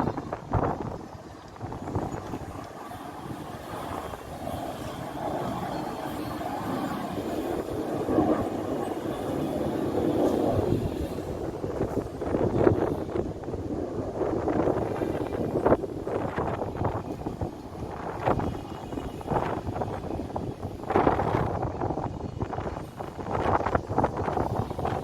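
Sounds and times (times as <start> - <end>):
jet engine roar: 0.0 - 25.0
wind buffeting microphone: 0.0 - 25.0.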